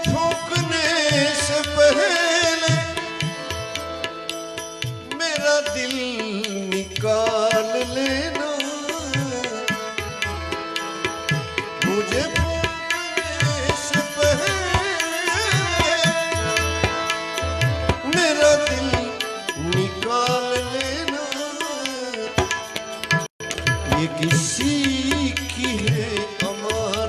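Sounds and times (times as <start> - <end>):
tabla beat: 0.0 - 27.0.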